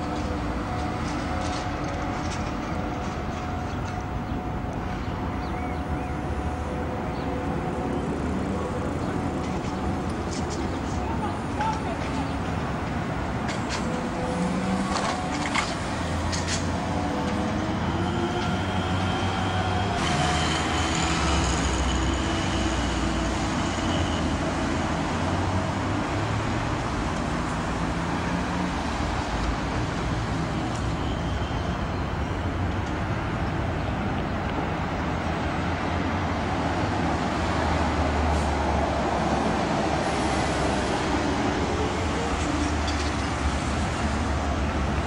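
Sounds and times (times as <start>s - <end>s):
street traffic: 0.0s - 45.0s
tram running: 0.0s - 45.0s
trolleybus driving past: 0.0s - 45.0s.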